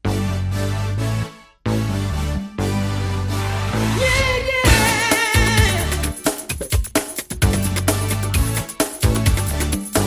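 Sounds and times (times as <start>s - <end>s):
instrumental r and b music: 0.0s - 10.0s.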